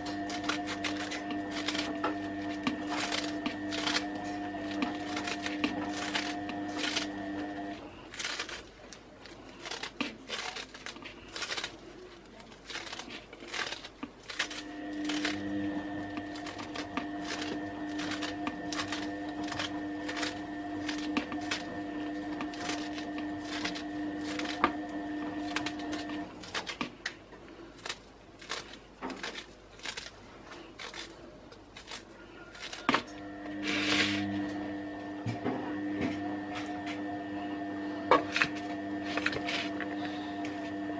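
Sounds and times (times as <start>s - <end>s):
lettuce leaves tearing and crunching: 0.0s - 35.2s, 36.2s - 40.9s.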